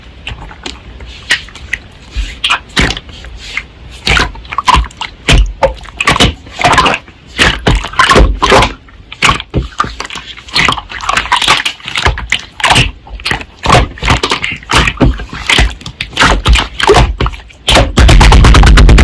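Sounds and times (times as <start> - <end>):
slime squelching: 0.0 - 19.0.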